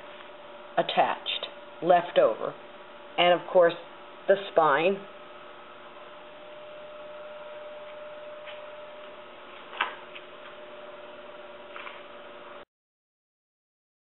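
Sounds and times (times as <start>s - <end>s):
electrical hum: 0.0s - 12.7s.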